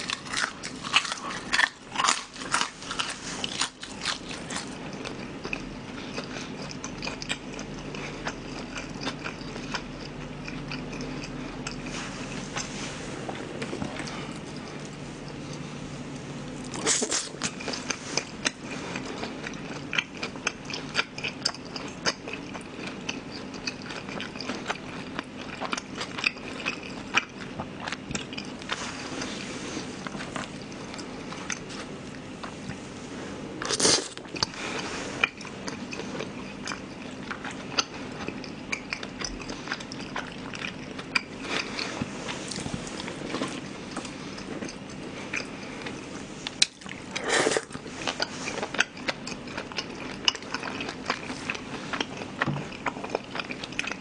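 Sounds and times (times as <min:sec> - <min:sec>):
person chewing close to microphone: 0:00.0 - 0:54.0.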